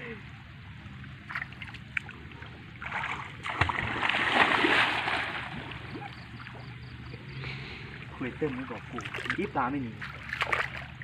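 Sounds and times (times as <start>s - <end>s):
water splashing in a pond: 0.6s - 11.0s.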